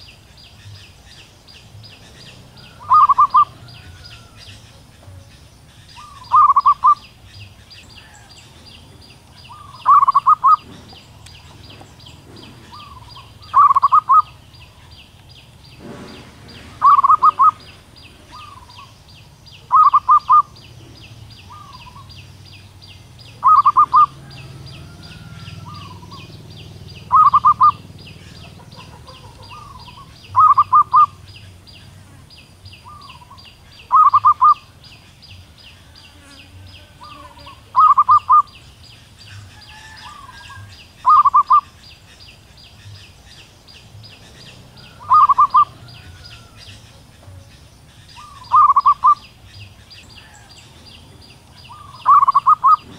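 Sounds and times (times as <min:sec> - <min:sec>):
dove cooing: 0:00.0 - 0:14.9, 0:15.8 - 0:19.0, 0:19.6 - 0:22.3, 0:23.2 - 0:34.8, 0:36.8 - 0:38.6, 0:39.2 - 0:41.8, 0:44.1 - 0:50.5, 0:51.1 - 0:52.9.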